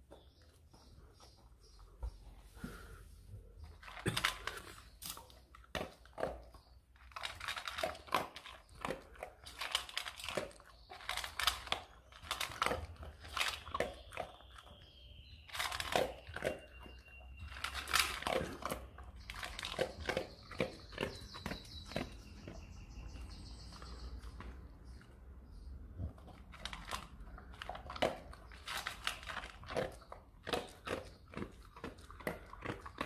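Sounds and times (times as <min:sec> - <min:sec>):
dog crunching kibble: 0:03.6 - 0:33.0.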